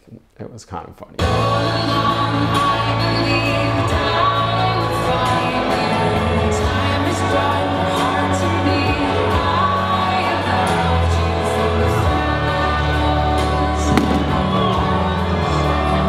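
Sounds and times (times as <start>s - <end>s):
pop song with singer: 1.2s - 16.0s.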